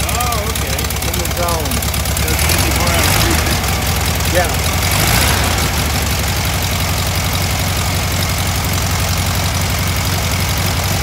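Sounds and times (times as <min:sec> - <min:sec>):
car engine fast idle: 0:00.0 - 0:11.0.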